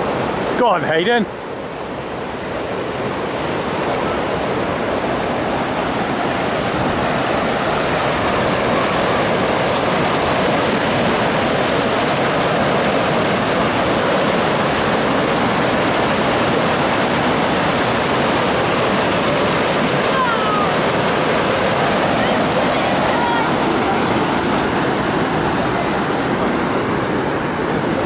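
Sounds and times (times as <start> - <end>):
whitewater rushing: 0.0 - 28.0.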